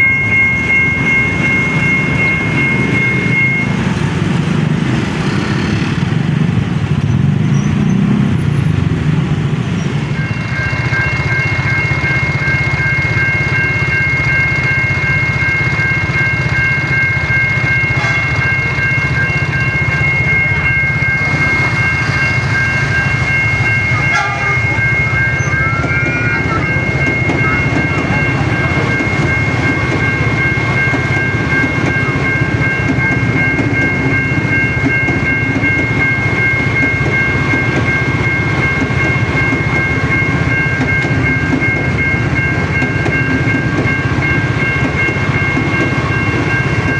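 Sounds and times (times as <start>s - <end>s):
high-pitched crossing warning alarm: 0.0s - 6.6s, 9.8s - 46.9s
train rumbling with wheel clatter: 0.0s - 46.9s.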